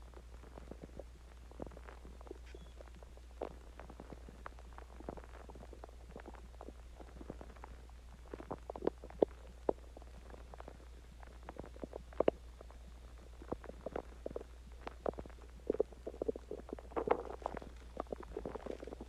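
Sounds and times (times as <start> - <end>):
steady low hum: 0.0 - 19.0
stomach growling and gurgling: 0.0 - 19.0.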